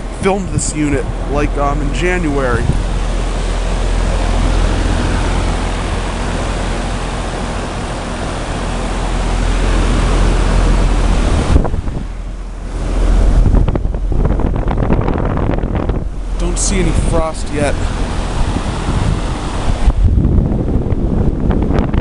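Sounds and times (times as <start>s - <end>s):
heat pump fan airflow rushing: 0.0s - 22.0s
low compressor hum: 0.0s - 22.0s.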